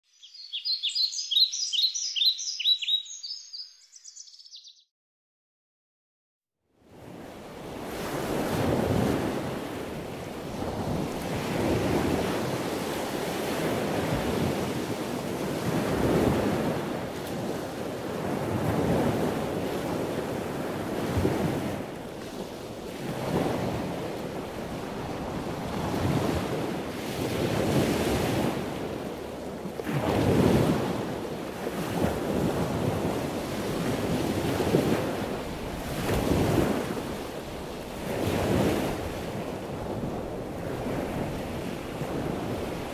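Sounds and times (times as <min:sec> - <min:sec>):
sea surf rushing: 0:07.0 - 0:42.9
wind buffeting microphone: 0:07.0 - 0:42.9.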